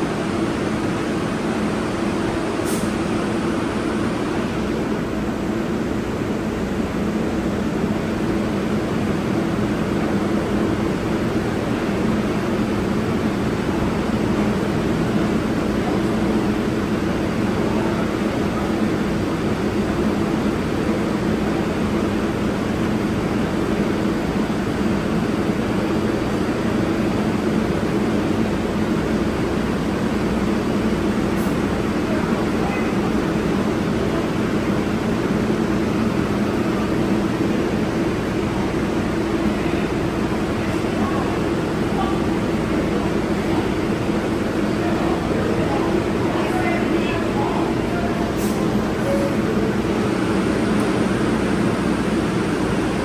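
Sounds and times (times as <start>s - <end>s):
subway train rumble and hum: 0.0s - 53.0s.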